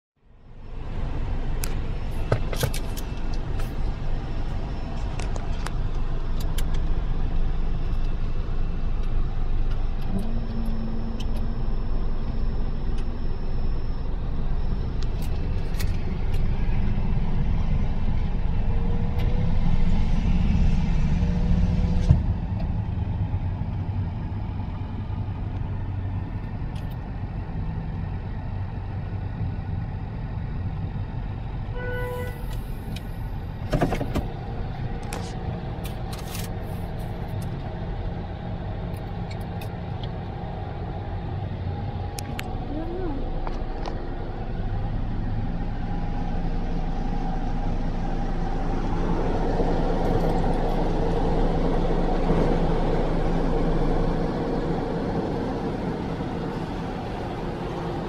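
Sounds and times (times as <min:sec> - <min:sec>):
car engine idling: 0:00.2 - 0:21.6, 0:22.2 - 0:58.0.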